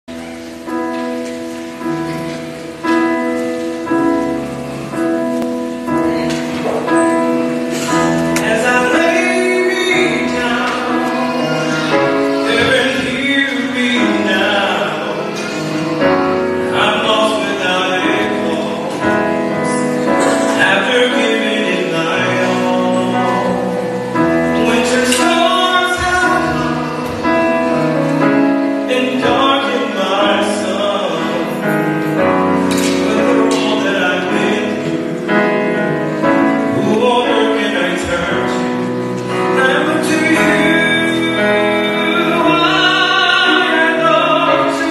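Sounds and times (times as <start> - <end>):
grand piano playing: 0.0 - 44.9.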